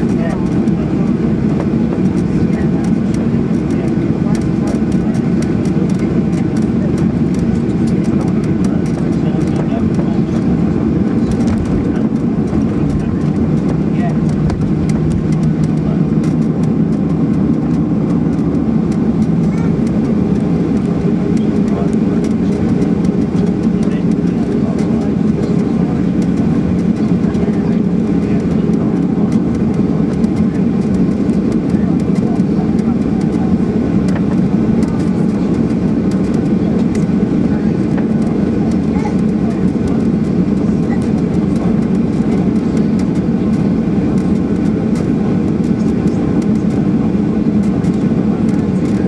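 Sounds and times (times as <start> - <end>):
aircraft engine and airflow rumble: 0.0 - 49.0
light rattles and clicks in cabin: 0.0 - 49.0.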